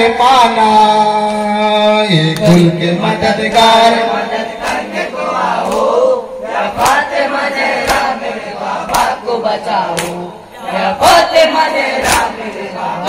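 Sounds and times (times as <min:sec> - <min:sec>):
men chanting together: 0:02.4 - 0:13.0.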